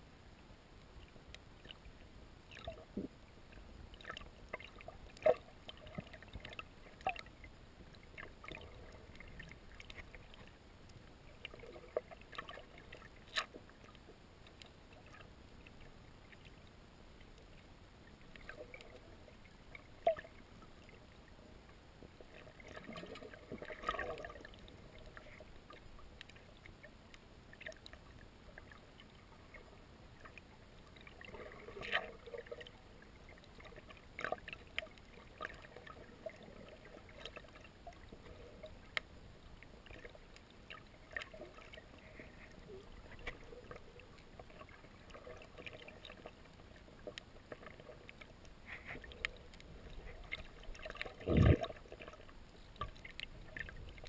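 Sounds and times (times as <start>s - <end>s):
muffled underwater water noise: 0.0s - 54.0s.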